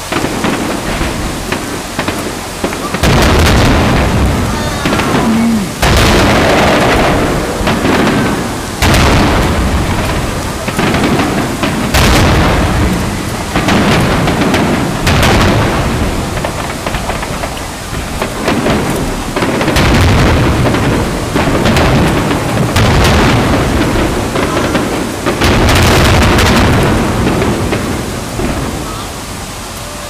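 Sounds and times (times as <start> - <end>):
fireworks booming: 0.0 - 30.0
fireworks crackling: 0.0 - 30.0.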